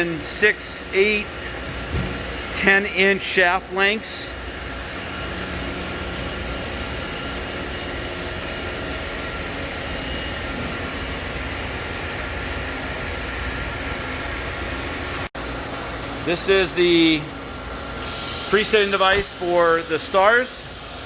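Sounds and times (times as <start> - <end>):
machine shop equipment humming: 0.0 - 21.0.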